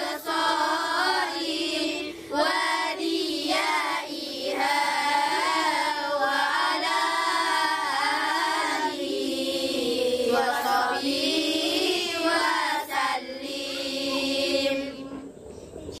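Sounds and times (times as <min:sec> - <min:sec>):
voices singing wavering melody: 0:00.0 - 0:16.0.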